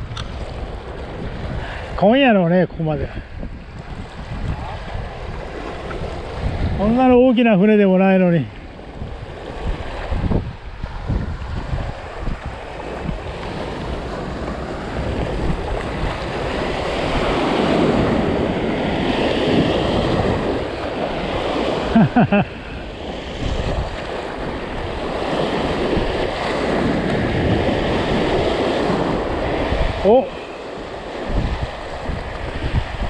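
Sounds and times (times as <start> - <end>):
waves washing against shoreline: 0.0 - 33.0
wind on microphone: 0.0 - 33.0.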